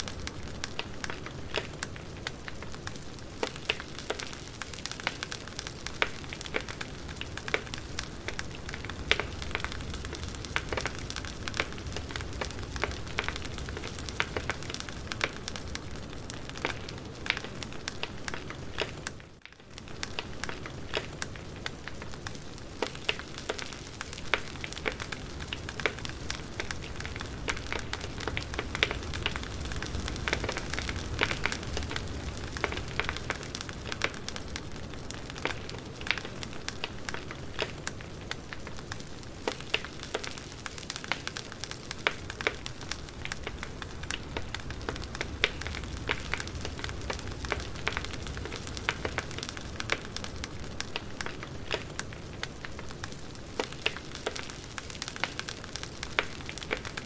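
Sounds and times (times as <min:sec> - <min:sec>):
campfire crackling and popping: 0:00.0 - 0:57.0
steady hiss: 0:00.0 - 0:57.0.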